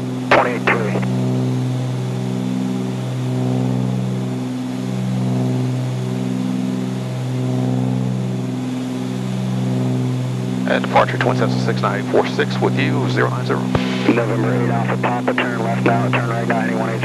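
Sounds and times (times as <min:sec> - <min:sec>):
propeller plane engines droning: 0:00.0 - 0:17.0.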